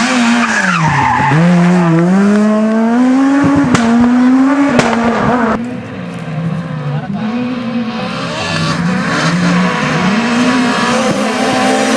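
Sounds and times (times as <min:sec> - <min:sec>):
rally car engine revving: 0:00.0 - 0:11.9.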